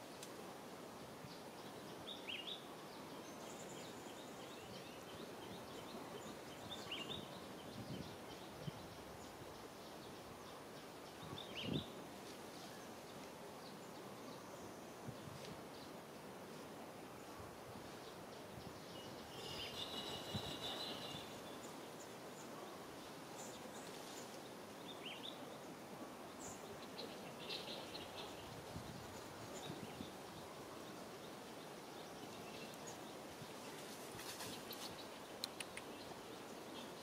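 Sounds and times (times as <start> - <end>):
faint outdoor ambience: 0.0 - 37.0.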